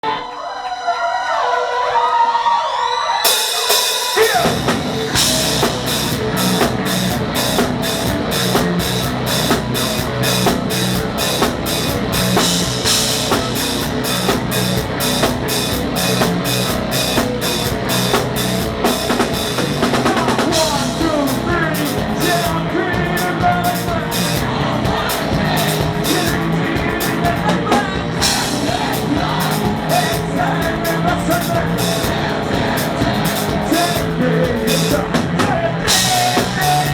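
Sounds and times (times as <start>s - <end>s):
rock band playing live: 3.2s - 36.9s
drum kit beat: 3.3s - 36.9s.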